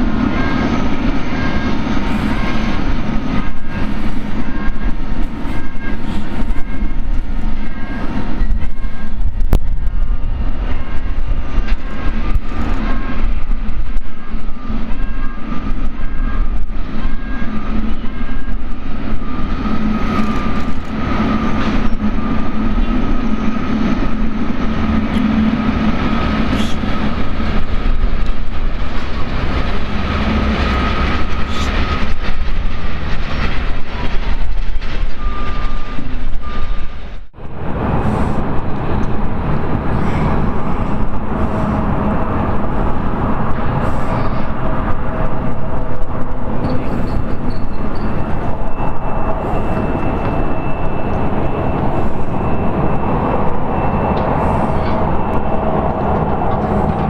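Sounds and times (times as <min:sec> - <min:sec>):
jet engines roaring with whine: 0:00.0 - 0:57.0.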